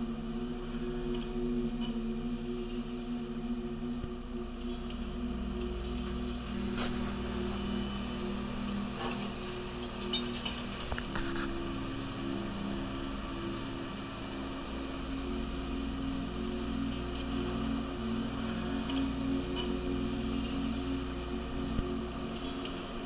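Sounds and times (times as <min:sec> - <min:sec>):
excavator engine drone: 0:00.0 - 0:23.0.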